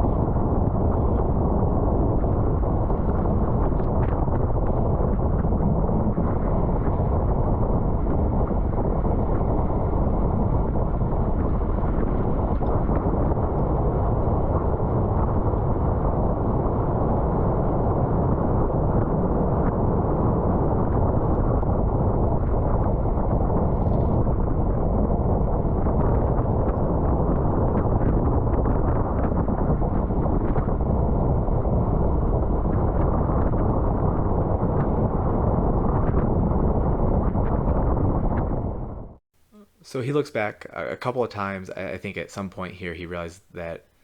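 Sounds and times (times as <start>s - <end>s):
wind buffeting microphone: 0.0s - 39.2s.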